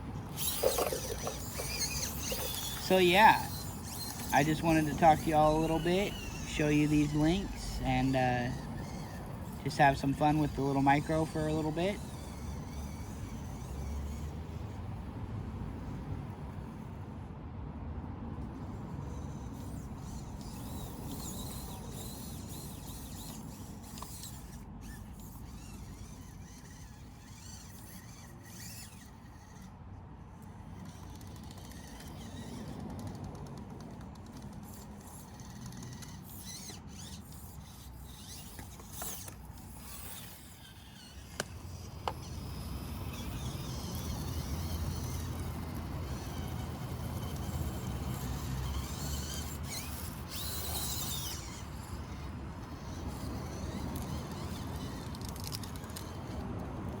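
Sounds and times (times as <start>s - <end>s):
toy car motor whirring: 0.0s - 17.3s, 18.3s - 57.0s.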